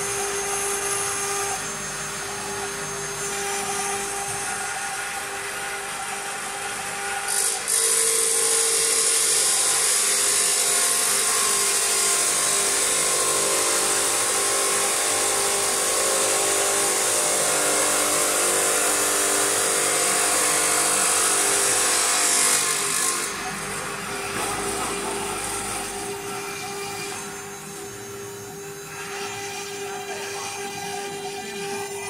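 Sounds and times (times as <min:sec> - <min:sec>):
router spindle high-pitched whine: 0:00.0 - 0:32.0.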